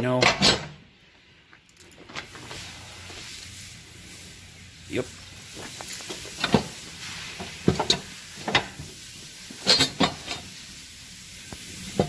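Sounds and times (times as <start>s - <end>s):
faint steady hiss: 0.8s - 12.0s.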